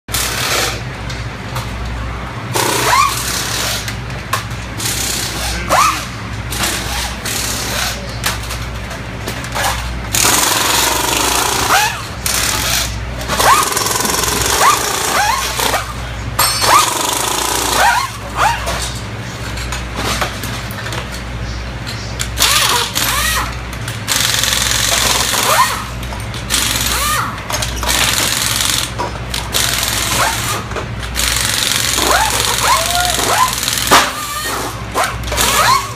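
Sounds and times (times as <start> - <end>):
pneumatic impact wrenches rattling: 0.1 - 0.9, 2.5 - 21.3, 22.2 - 35.9.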